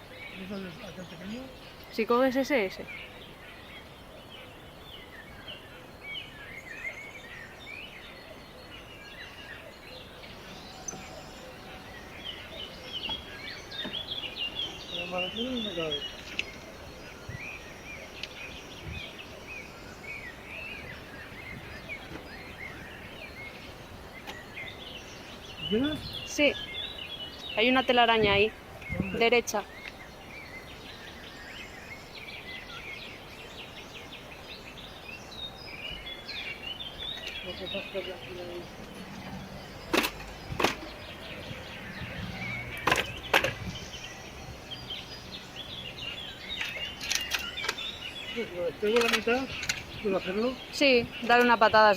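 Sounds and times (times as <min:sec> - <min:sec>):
outdoor background hiss: 0:00.0 - 0:51.9
small birds chirping: 0:00.0 - 0:51.9.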